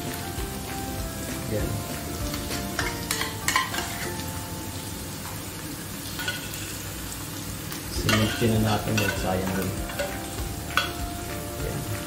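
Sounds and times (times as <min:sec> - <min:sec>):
faint background music: 0:00.0 - 0:12.0
food sizzling in a frying pan: 0:00.0 - 0:12.0.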